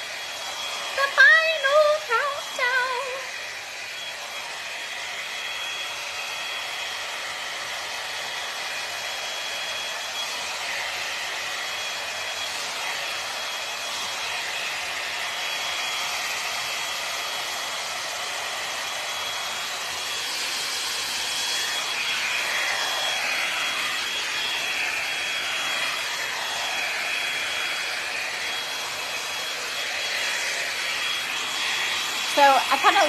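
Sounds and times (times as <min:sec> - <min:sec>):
hot air brush blowing: 0:00.0 - 0:33.0.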